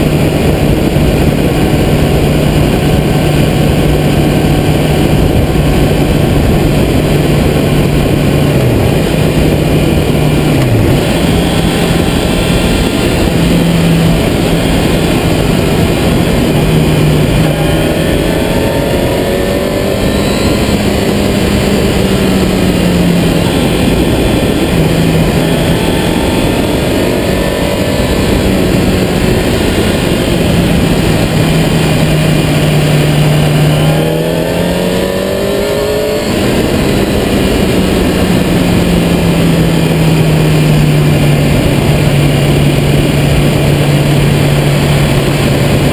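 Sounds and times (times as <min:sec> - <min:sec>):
motorcycle engine: 0:00.0 - 0:45.9
road noise: 0:00.0 - 0:45.9
wind noise: 0:00.0 - 0:45.9.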